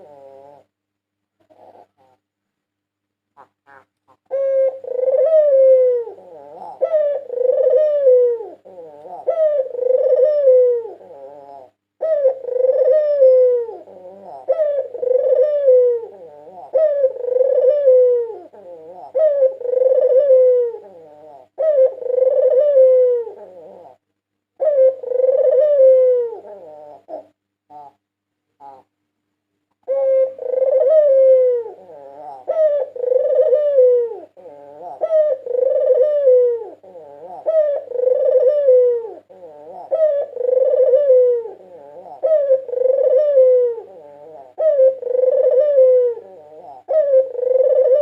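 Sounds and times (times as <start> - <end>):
dove cooing: 0.0 - 0.8, 1.4 - 2.3, 3.4 - 24.0, 24.6 - 28.0, 28.6 - 28.9, 29.8 - 48.0.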